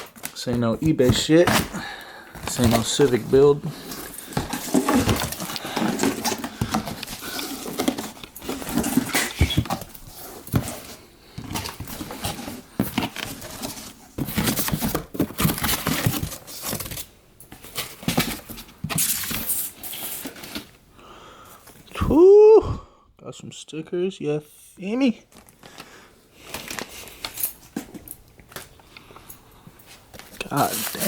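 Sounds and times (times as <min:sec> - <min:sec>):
cardboard and plastic rustling: 0:00.0 - 0:20.8, 0:25.3 - 0:29.0, 0:29.8 - 0:31.0.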